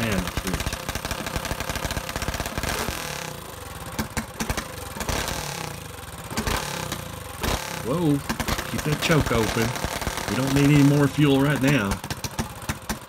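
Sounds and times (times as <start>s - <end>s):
small engine running unevenly: 0.0s - 13.0s.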